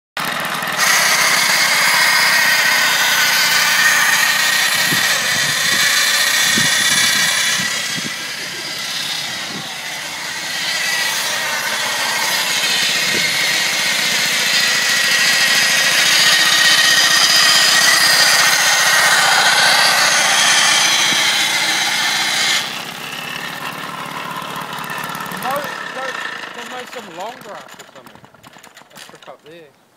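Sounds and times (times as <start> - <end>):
lawnmower whirring: 0.2 - 29.9.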